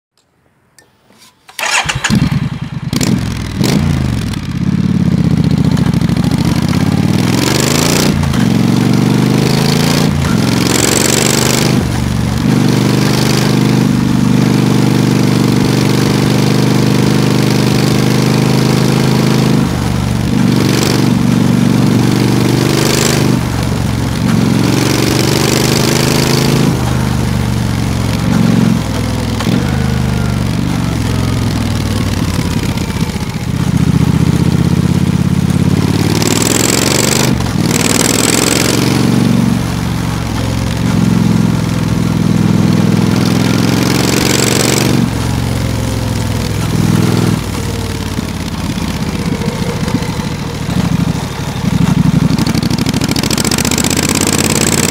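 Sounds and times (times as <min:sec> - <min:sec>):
motorcycle engine revving: 0:01.2 - 0:54.9.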